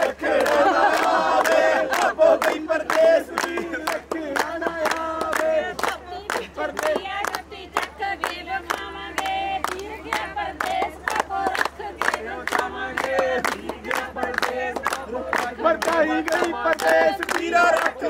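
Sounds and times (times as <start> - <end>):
group singing and shouting: 0.0 - 18.0.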